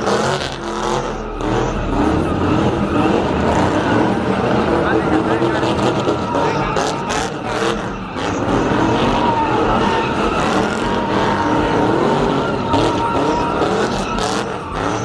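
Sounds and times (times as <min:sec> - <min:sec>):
car engine revving: 0:00.0 - 0:15.0
tire squeal: 0:00.0 - 0:15.0.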